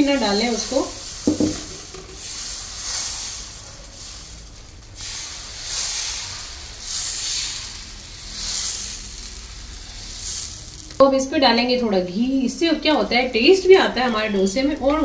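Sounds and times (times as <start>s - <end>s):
batter sizzling on a hot griddle: 0.0s - 15.0s.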